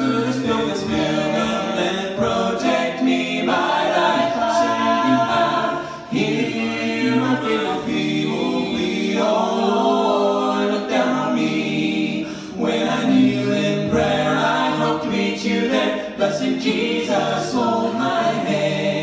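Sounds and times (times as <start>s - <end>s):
a cappella quartet singing harmony: 0.0s - 19.0s.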